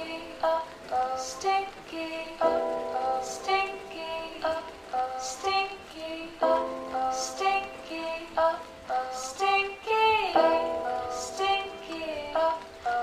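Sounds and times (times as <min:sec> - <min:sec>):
background music with held notes: 0:00.0 - 0:13.0.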